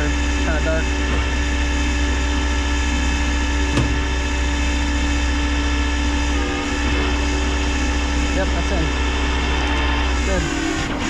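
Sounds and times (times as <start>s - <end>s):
steady whine: 0.0s - 11.0s
truck engine idling: 0.0s - 11.0s.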